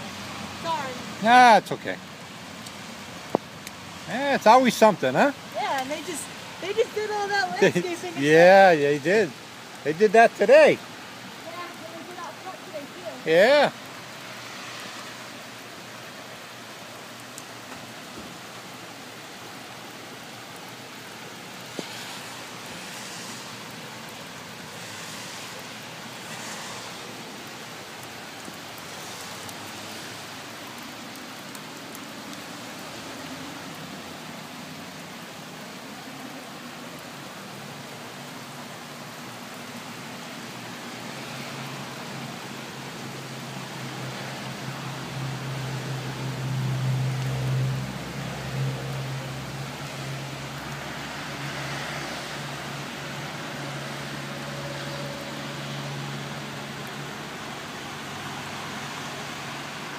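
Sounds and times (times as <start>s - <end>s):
floodwater running: 0.0s - 59.9s
rain hissing: 0.0s - 59.9s.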